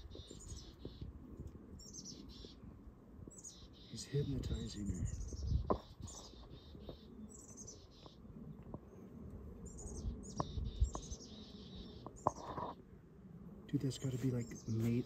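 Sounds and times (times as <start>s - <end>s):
small birds chirping: 0.0s - 9.0s, 9.6s - 12.8s, 13.7s - 15.0s.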